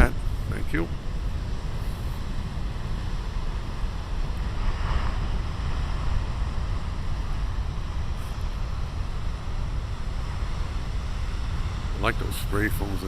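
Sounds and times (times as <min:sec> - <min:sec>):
ocean surf breaking: 0:01.0 - 0:13.0.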